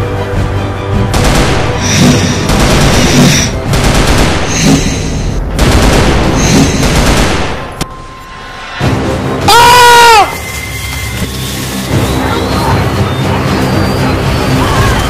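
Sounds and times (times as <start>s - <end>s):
dramatic background music: 0.0s - 15.0s.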